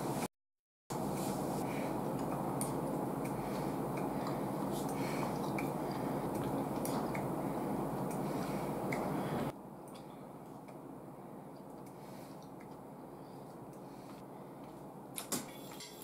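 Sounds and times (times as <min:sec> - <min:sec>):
steady background noise: 0:00.9 - 0:16.0.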